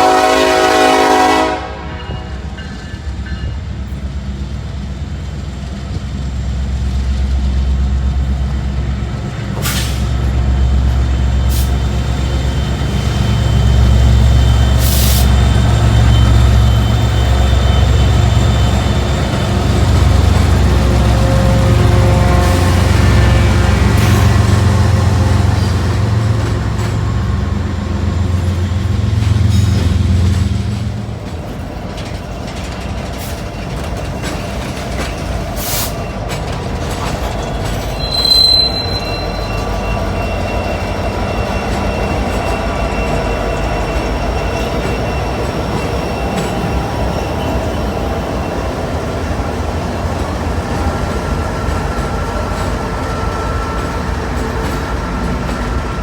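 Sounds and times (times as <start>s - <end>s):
diesel locomotive engines droning: 0.0s - 56.0s
train wheels on rails: 0.0s - 56.0s
high wheel squeal: 9.6s - 31.0s, 32.0s - 56.0s.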